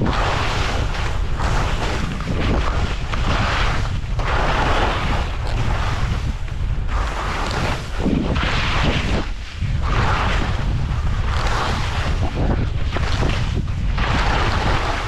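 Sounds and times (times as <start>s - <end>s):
constant low rumble: 0.0s - 15.0s
skis scraping over snow: 0.0s - 15.0s
wind buffeting microphone: 0.0s - 15.0s.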